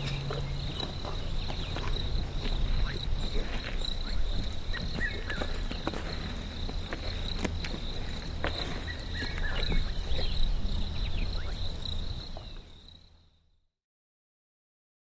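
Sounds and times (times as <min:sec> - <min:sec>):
high insect trill: 0:00.0 - 0:13.6.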